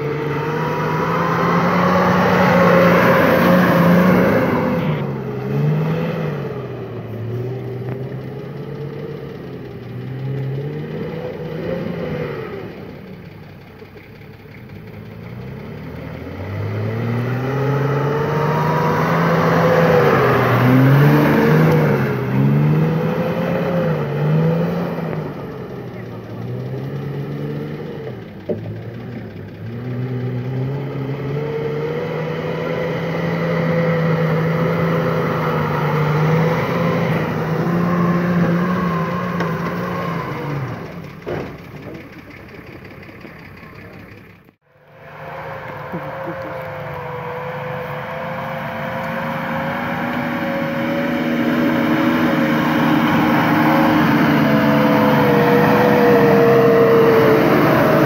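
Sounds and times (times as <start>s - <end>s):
diesel engine pulling under load: 0.0s - 58.0s.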